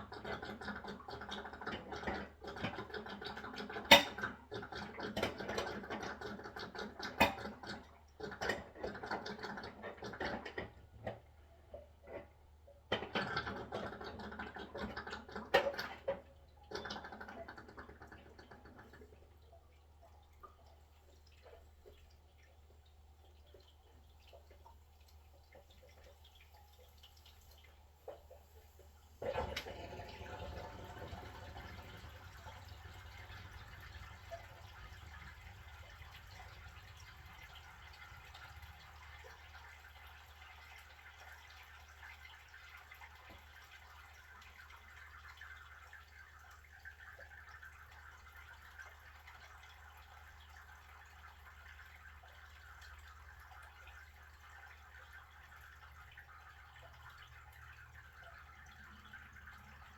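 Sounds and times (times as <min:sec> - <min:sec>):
water trickling into a drain: 0:00.0 - 0:59.9.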